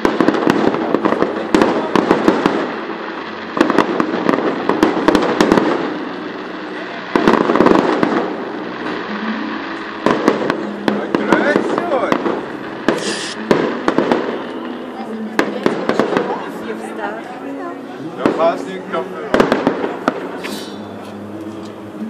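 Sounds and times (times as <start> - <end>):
fireworks bangs and pops: 0.0 - 17.4, 18.2 - 21.8.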